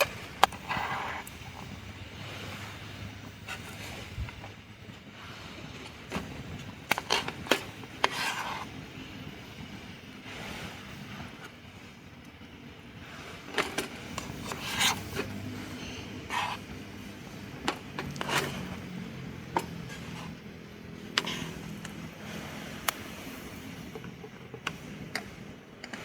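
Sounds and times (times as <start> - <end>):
handling scraping and rubbing: 0.0 - 12.0, 12.9 - 26.0.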